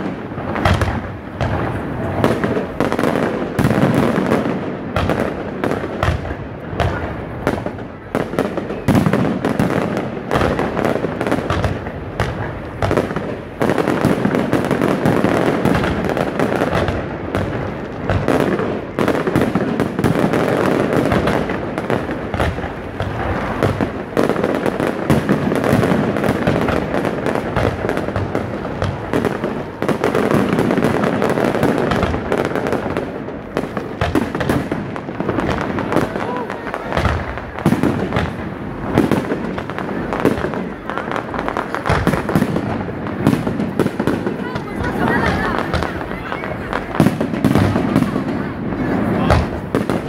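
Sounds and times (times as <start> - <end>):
crackling fireworks stars: 0.0 - 50.0
fireworks bangs: 0.0 - 50.0.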